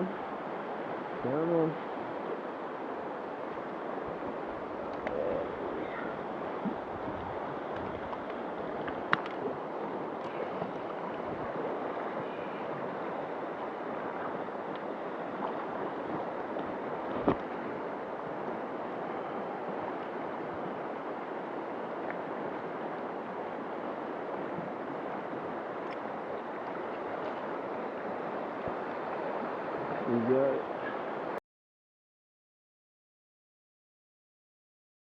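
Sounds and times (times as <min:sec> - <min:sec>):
stream water rushing: 0:00.0 - 0:31.4.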